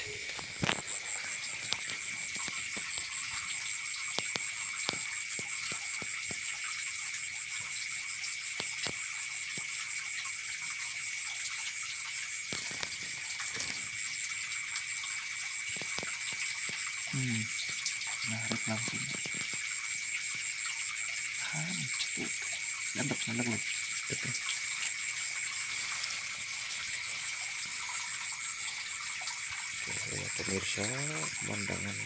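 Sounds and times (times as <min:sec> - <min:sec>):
night insects trilling: 0:00.0 - 0:32.0.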